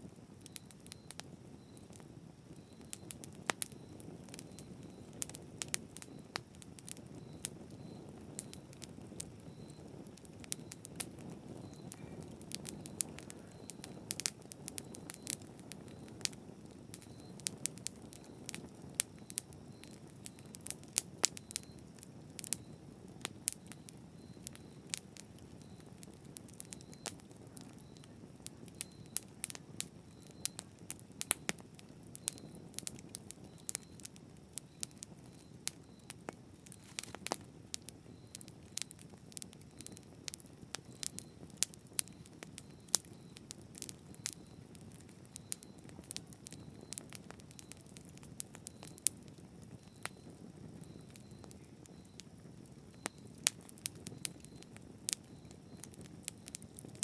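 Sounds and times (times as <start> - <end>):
burning wood crackling: 0.0 - 57.0
low rush of flames: 0.0 - 57.0.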